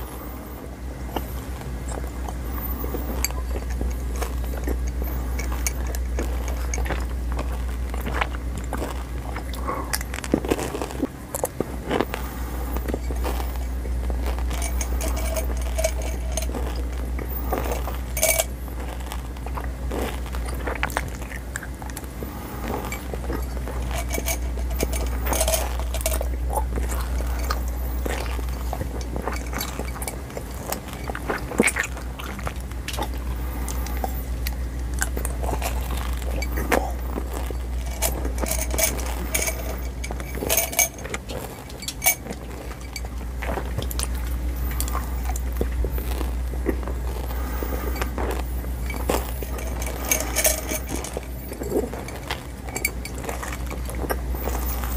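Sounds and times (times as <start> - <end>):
chewing crunchy gum: 0.0 - 54.9
steady low hum: 0.0 - 54.9.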